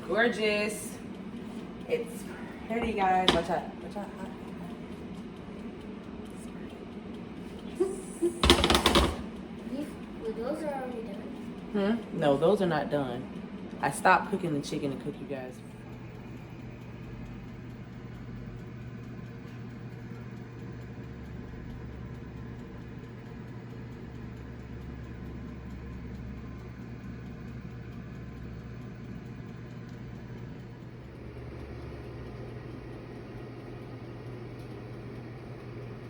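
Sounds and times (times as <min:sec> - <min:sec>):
kitchen appliance humming: 0:00.0 - 0:36.0.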